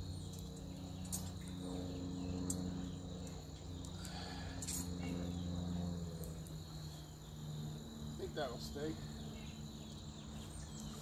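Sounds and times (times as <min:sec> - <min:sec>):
insects chirping: 0:00.0 - 0:11.0
low steady hum: 0:00.0 - 0:11.0.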